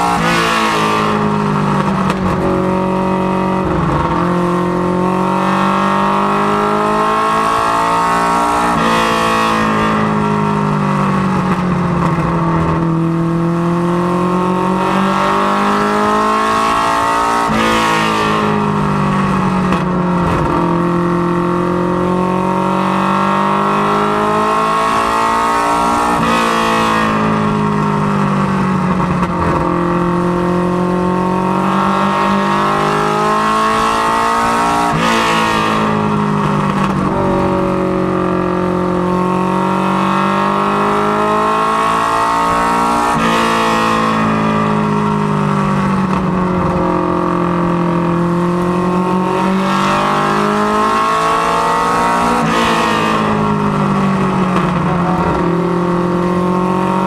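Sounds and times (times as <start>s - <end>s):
race car engine from inside: 0.0s - 57.0s.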